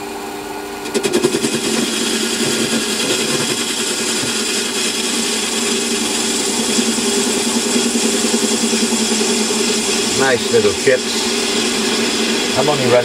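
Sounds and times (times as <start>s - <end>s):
lathe motor hum: 0.8s - 13.0s.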